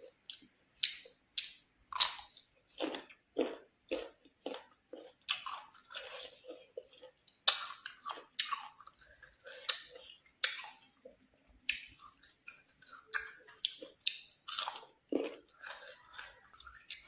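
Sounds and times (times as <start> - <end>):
chewing crisp raw mango: 0.0 - 17.0.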